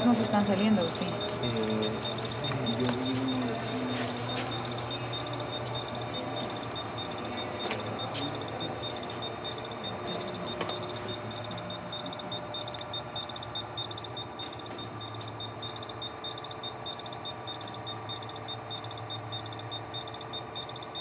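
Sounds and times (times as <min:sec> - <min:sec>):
low machine hum: 0:00.0 - 0:21.0
rapid high-pitched electronic beeping: 0:00.0 - 0:21.0.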